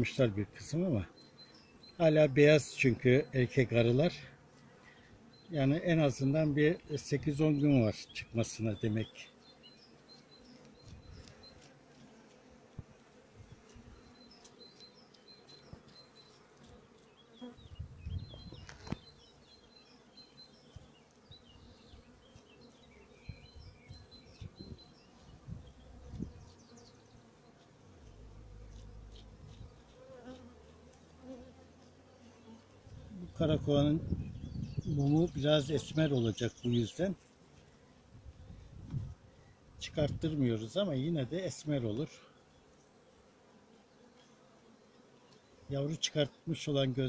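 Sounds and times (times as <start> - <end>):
honeybees buzzing: 0.0 - 47.0.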